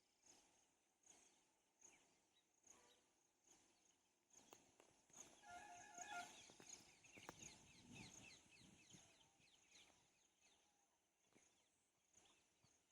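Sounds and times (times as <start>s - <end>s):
small birds chirping: 1.1s - 12.9s.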